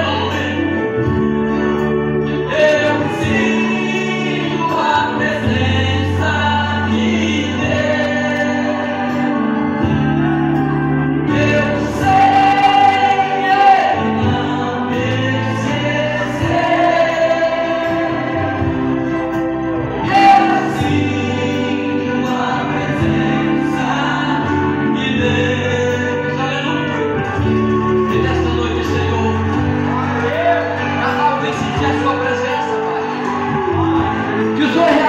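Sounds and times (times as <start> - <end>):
instrumental accompaniment with bass: 0.0 - 35.0
man singing through microphone: 0.0 - 35.0.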